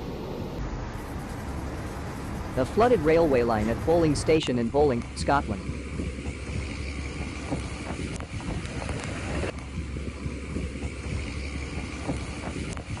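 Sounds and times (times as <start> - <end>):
wind buffeting microphone: 0.3 - 13.0.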